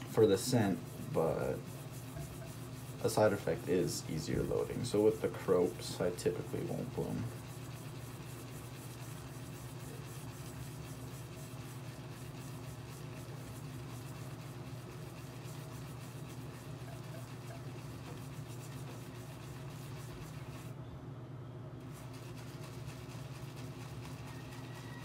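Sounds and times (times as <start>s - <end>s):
shaving brush bristles scratching: 0.0s - 20.7s, 21.9s - 25.0s
steady low hum: 0.0s - 24.9s.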